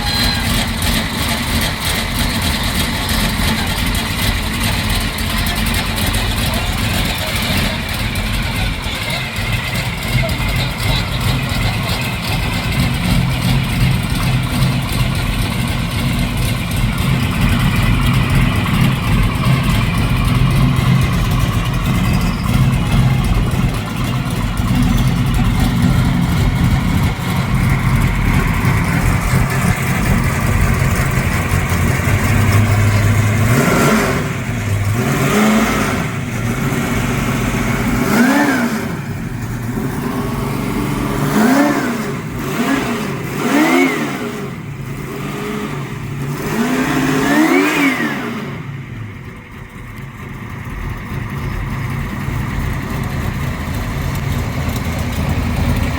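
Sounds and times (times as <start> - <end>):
car engine idling and revving: 0.0 - 55.9.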